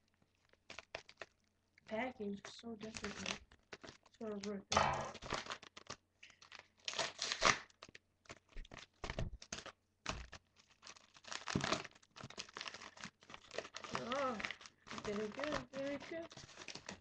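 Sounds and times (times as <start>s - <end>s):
paper envelope tearing and crinkling: 0.4s - 1.3s, 2.8s - 17.0s.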